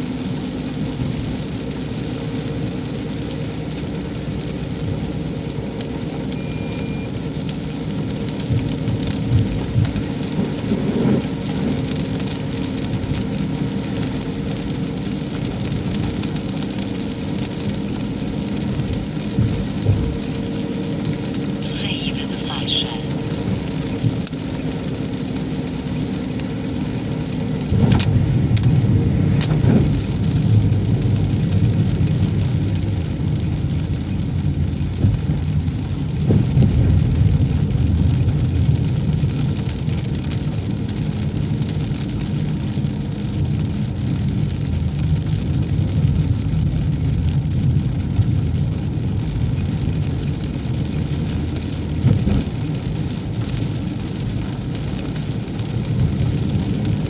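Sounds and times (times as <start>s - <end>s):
car engine and road noise: 0.0s - 57.0s
rain: 0.0s - 57.0s.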